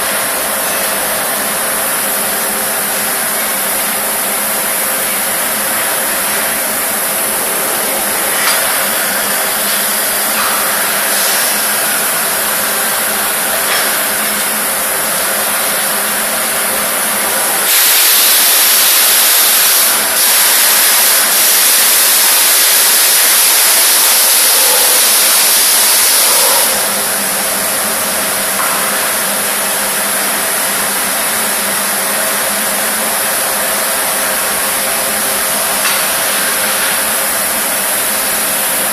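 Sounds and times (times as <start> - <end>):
loud hiss: 0.0 - 38.9
machinery drone with hum tones: 0.0 - 38.9.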